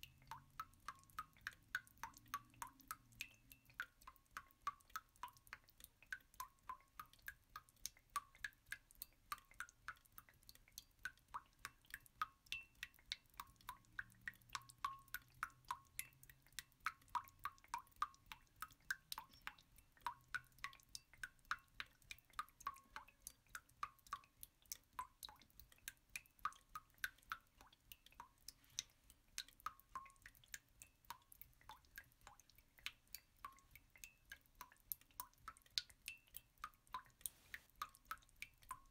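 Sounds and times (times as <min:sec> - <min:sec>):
faint drip-like plinks: 0:00.0 - 0:38.9.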